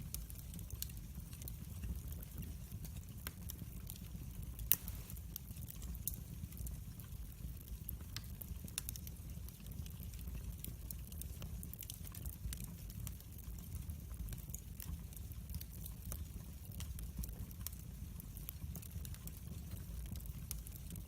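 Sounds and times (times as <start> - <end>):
fire crackling and popping: 0.0 - 21.0
fire rumbling in fireplace: 0.0 - 21.0.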